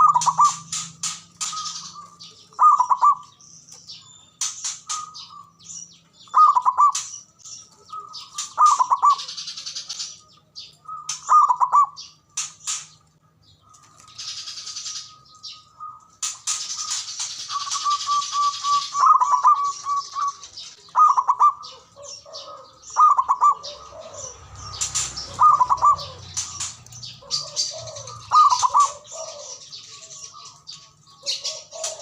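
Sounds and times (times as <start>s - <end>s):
doves cooing: 0.0s - 13.0s, 13.6s - 32.0s
small birds chirping: 0.0s - 32.0s.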